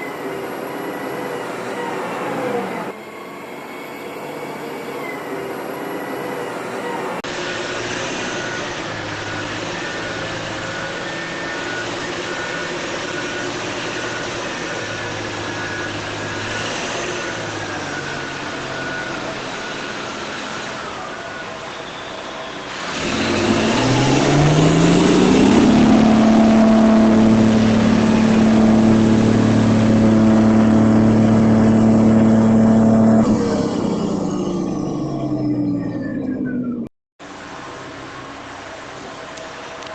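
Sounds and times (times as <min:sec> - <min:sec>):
motor whine rising in pitch: 0:00.0 - 0:36.9
steady mechanical noise: 0:00.0 - 0:39.9.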